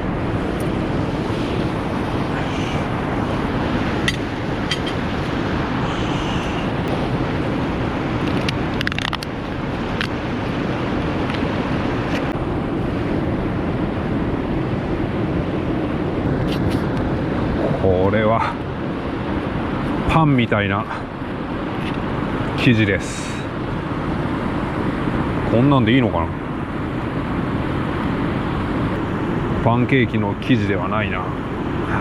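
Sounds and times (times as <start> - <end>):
rushing outdoor background noise: 0.0 - 32.0.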